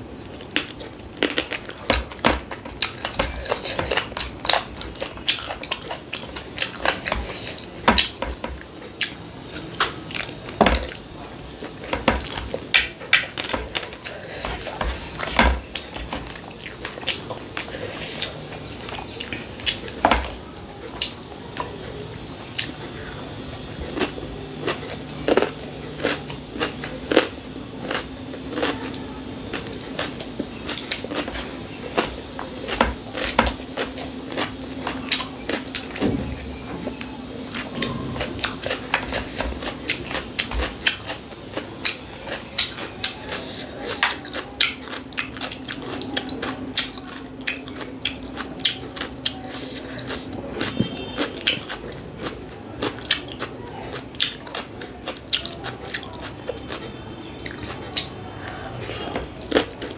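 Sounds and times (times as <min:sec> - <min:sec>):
person chewing food: 0:00.2 - 0:36.1, 0:36.8 - 0:59.9.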